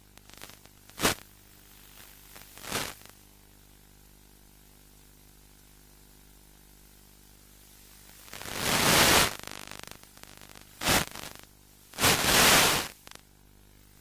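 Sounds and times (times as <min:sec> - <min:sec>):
radio static hiss: 0:00.0 - 0:03.3, 0:04.6 - 0:14.0
faint steady hum: 0:00.0 - 0:14.0.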